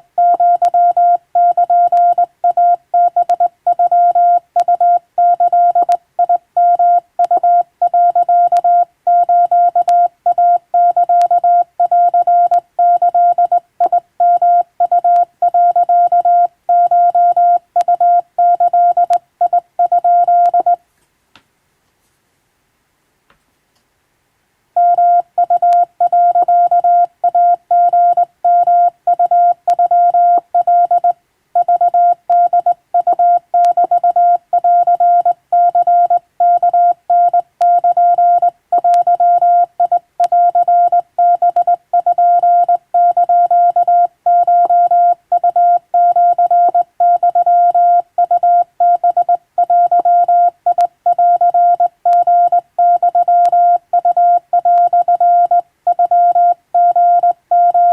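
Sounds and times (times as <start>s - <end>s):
morse code tone: 0.2s - 20.8s, 24.8s - 57.9s.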